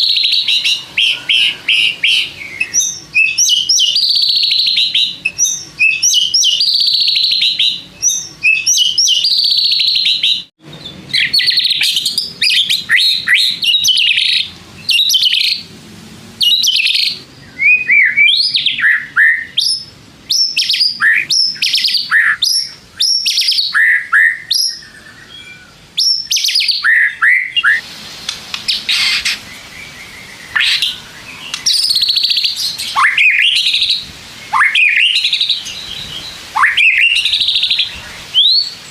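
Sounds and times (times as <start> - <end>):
songbird trills and whistles: 0.0 - 15.6, 16.4 - 38.9.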